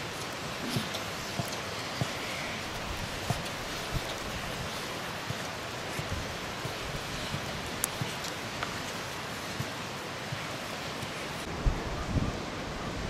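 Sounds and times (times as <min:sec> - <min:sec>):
wooden stick stirring porridge: 0:00.0 - 0:11.5
steady hiss: 0:00.0 - 0:13.0.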